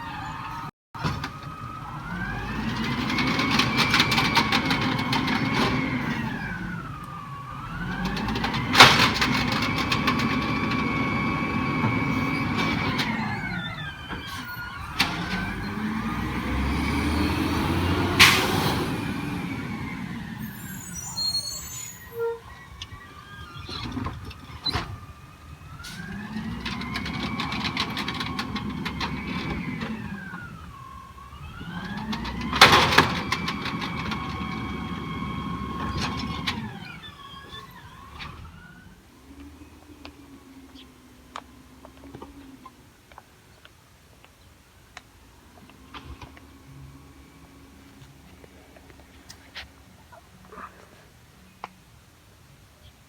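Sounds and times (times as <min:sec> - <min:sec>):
truck engine revving: 0:00.0 - 0:42.6, 0:45.4 - 0:49.8.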